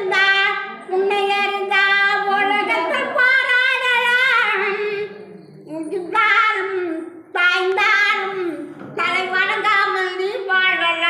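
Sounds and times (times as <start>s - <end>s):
elderly woman singing: 0.0s - 10.0s.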